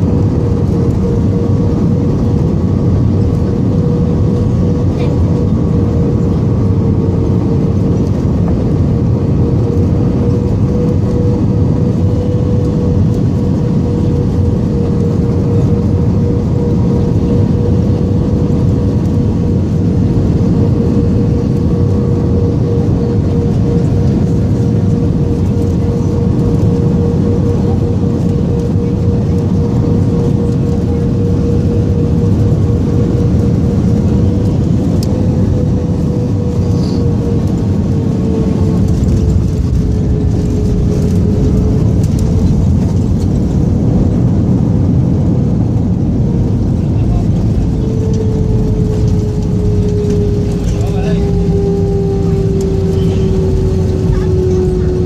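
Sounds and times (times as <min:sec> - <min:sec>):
airplane cabin engine noise: 0:00.0 - 0:55.0
mid-pitched whine: 0:00.0 - 0:55.0.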